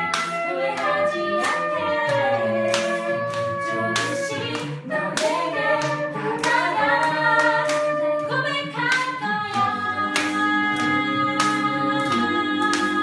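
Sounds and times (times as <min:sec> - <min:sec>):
a cappella group singing: 0:00.0 - 0:13.0.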